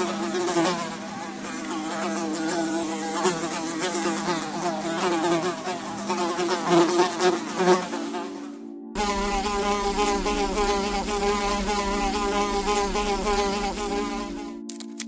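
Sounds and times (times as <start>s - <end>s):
flying insect buzzing: 0.0s - 14.7s.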